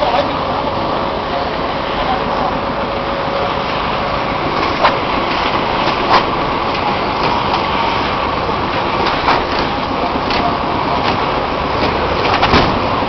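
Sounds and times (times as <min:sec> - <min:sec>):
concrete mixer pump running: 0:00.0 - 0:13.0.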